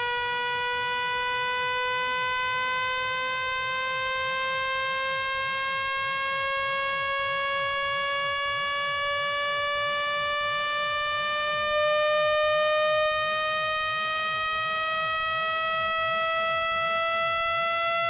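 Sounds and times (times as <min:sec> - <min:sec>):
buzzy synthesized rising tone: 0:00.0 - 0:18.0.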